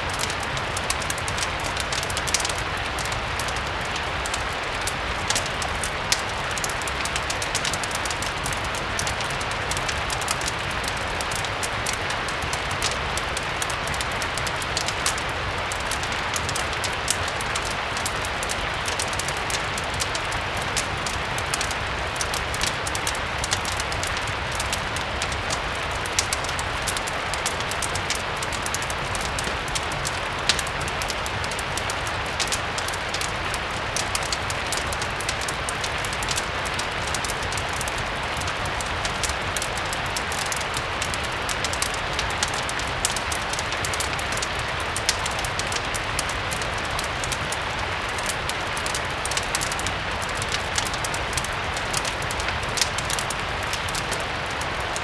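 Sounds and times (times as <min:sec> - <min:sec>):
fireplace crackling: 0:00.0 - 0:55.0
steady rain: 0:00.0 - 0:55.0.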